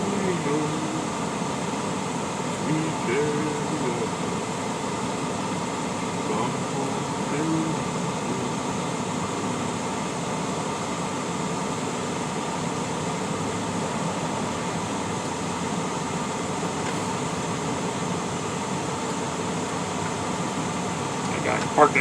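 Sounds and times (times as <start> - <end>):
road noise hiss: 0.0 - 22.0
truck engine hum: 0.0 - 22.0.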